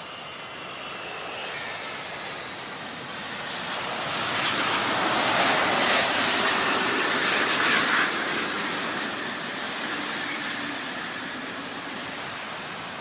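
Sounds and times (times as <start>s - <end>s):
jet airliner passing: 0.0s - 13.0s.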